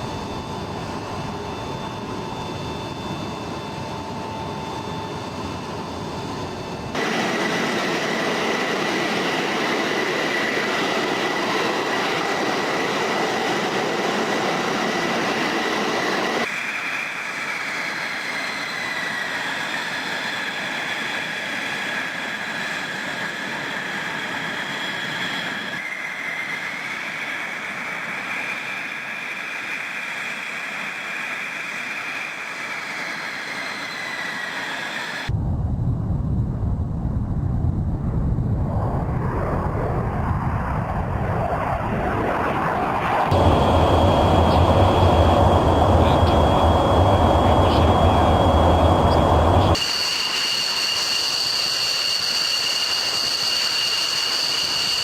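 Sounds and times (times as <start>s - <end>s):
jet engine rushing and whining: 0.0s - 55.0s.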